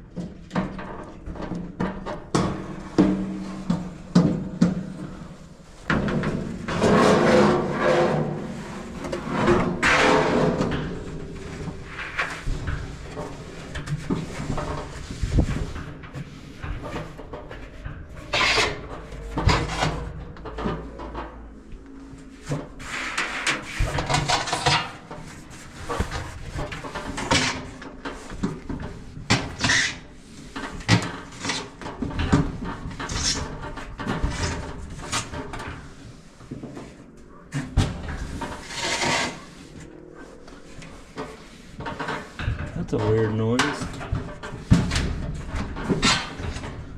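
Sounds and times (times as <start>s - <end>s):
scraping and knocking of dryer parts: 0.0s - 46.9s.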